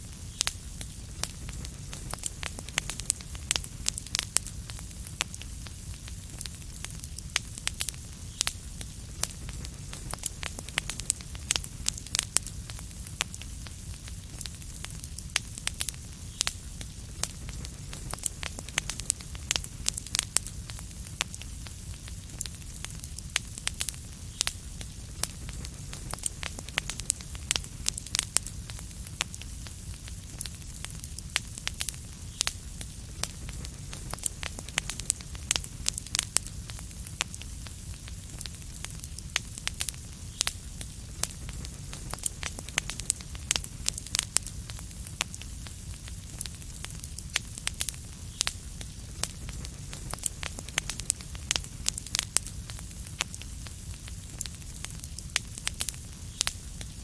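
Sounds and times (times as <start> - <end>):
faint hiss: 0.0 - 57.0
low fire rumble: 0.0 - 57.0
wood fire popping and crackling: 0.0 - 57.0.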